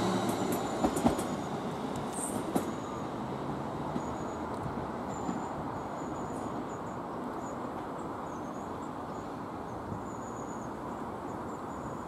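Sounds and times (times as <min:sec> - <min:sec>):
electric train rumbling along track: 0:00.0 - 0:12.0.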